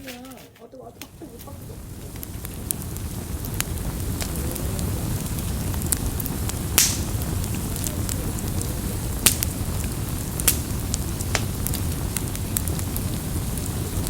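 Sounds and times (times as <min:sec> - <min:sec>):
campfire wood crackling: 0:00.0 - 0:14.0
sharp fire pops: 0:00.0 - 0:14.0
low rumble: 0:01.1 - 0:14.0.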